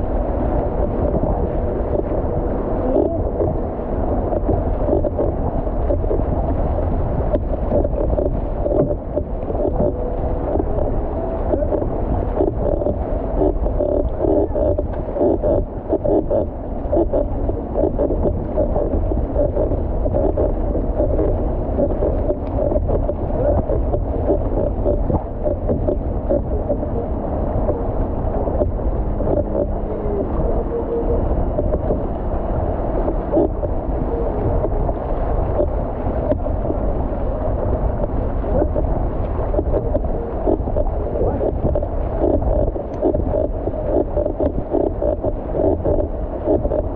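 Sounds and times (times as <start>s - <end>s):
low rumble: 0.0s - 46.9s
motorboat engine drone: 0.0s - 46.9s
water rushing and splashing on hull: 0.0s - 46.9s.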